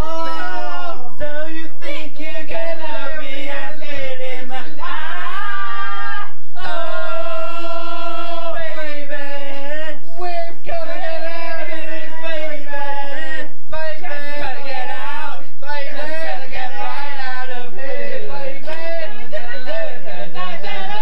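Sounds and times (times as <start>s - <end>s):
men singing a cappella: 0.0s - 21.0s.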